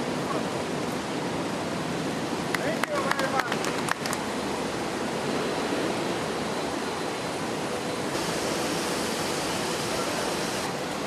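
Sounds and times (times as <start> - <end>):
factory hall rushing noise: 0.0 - 11.0.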